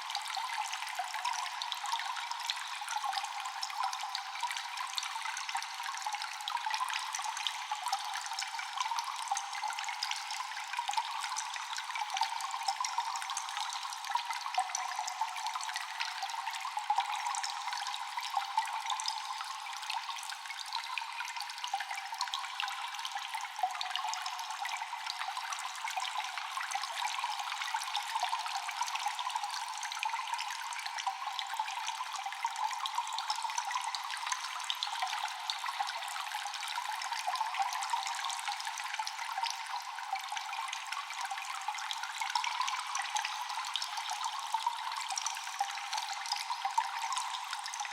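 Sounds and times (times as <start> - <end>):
water dripping in a cave: 0.0 - 47.9
water trickling: 0.1 - 47.9.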